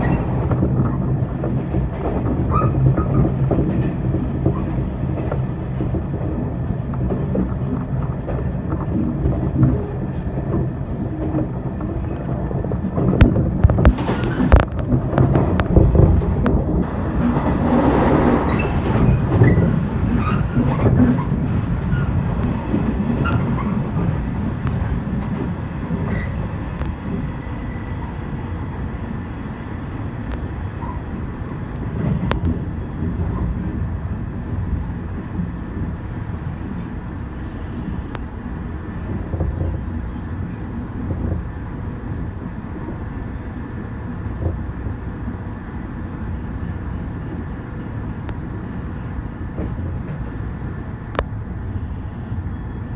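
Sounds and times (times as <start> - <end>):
electric train wheels rumbling on rail: 0.0 - 52.9.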